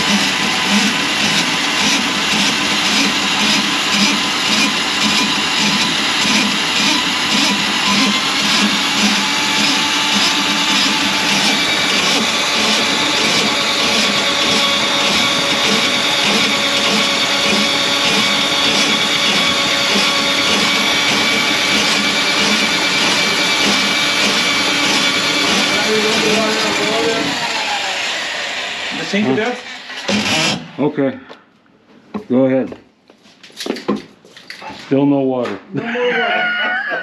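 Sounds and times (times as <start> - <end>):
drain cleaning machine motor: 0.0 - 30.6.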